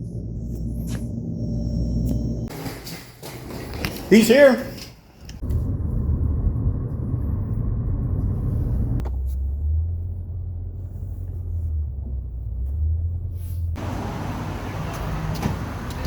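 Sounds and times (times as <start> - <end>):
car engine and road noise: 0.0 - 2.5, 5.2 - 16.0.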